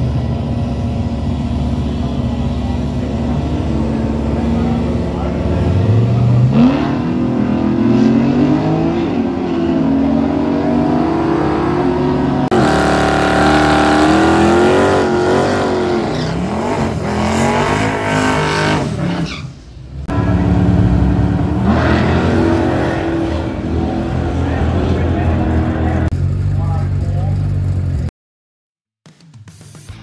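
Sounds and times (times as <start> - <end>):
racing car engines revving: 0.0 - 28.1.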